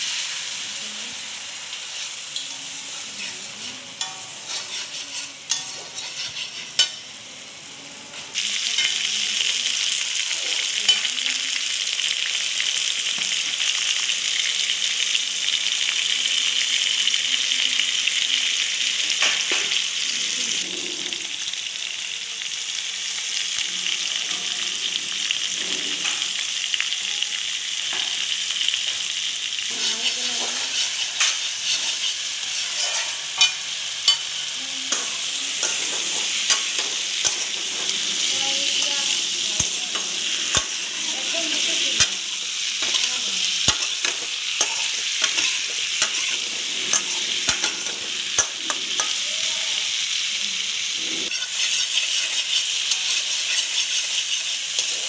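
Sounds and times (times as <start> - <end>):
potatoes frying in hot oil: 0.0 - 55.0
soft sizzle: 0.0 - 55.0.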